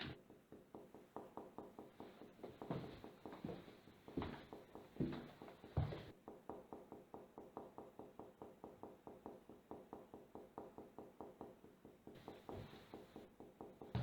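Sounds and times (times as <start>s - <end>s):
rapid light ticking: 0.0s - 14.0s.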